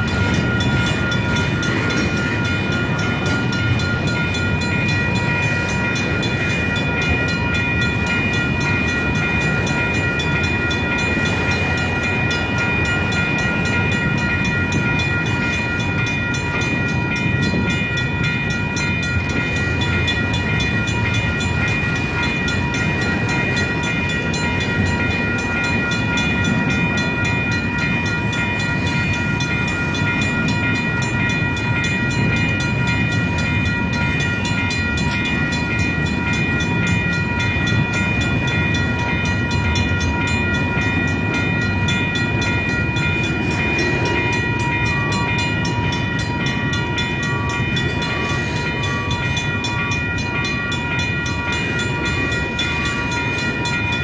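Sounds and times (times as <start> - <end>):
high ringing tones: 0.0 - 54.0
train wheels rumbling on rail: 0.0 - 54.0.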